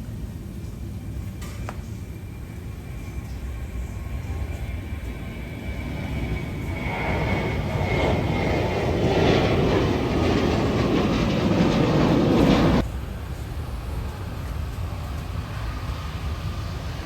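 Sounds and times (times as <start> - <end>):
jet airliner engines: 0.0 - 17.0.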